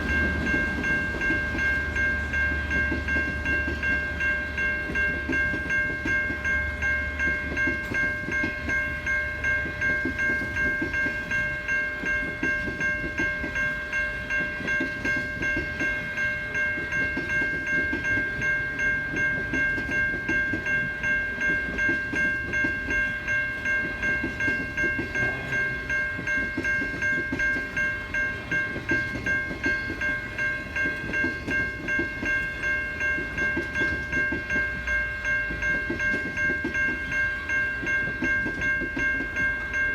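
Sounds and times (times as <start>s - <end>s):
level crossing bells ringing: 0.0s - 39.9s
train wheels clacking over rails: 0.0s - 39.9s.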